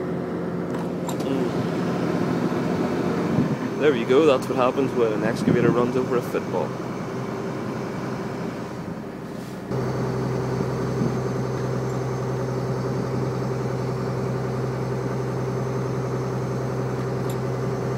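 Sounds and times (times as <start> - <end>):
excavator engine running: 0.0 - 17.9.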